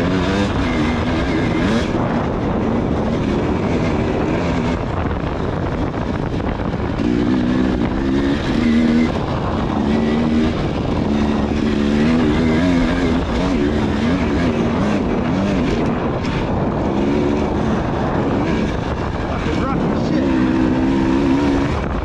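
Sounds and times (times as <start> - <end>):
constant rushing noise: 0.0 - 22.0
dirt bike engine revving: 0.0 - 22.0.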